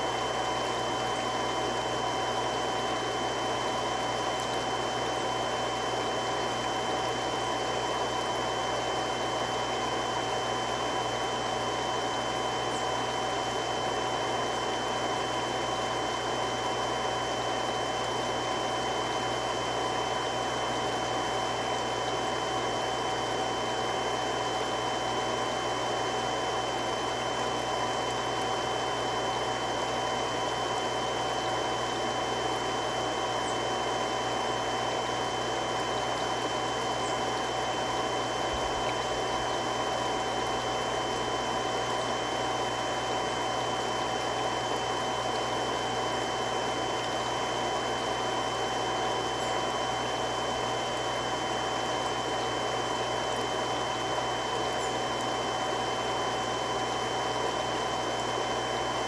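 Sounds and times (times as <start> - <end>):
water pump running: 0.0 - 59.0.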